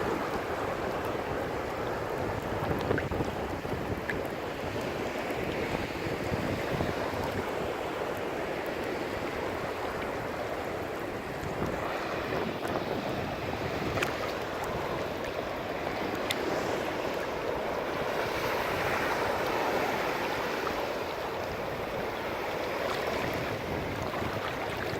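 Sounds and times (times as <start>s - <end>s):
waves breaking on shore: 0.0s - 24.9s.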